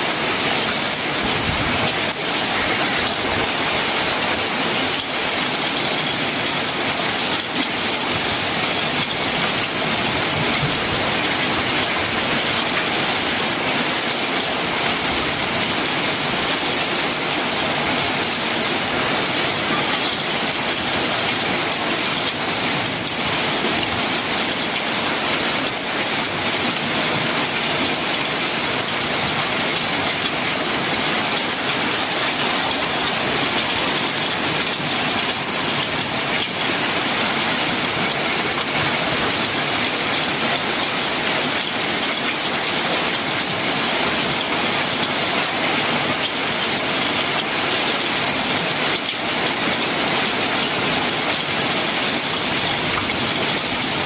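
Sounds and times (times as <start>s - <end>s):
heavy rain on a metal roof: 0.0s - 54.0s
water streaming off roof: 0.0s - 54.0s.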